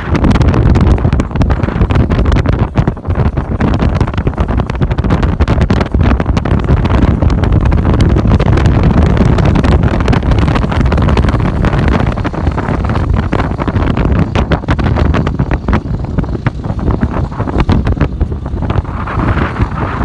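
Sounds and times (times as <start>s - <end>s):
car road noise: 0.0s - 20.0s
wind buffeting microphone: 0.0s - 20.0s.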